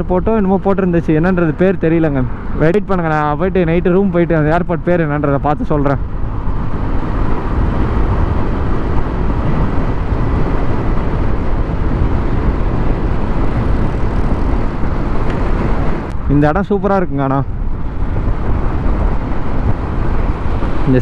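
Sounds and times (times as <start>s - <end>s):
scooter road rumble: 0.0s - 21.0s
wind rushing over microphone: 0.0s - 21.0s.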